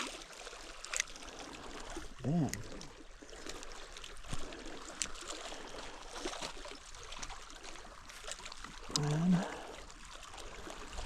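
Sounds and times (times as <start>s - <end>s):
water lapping and trickling: 0.0s - 11.0s.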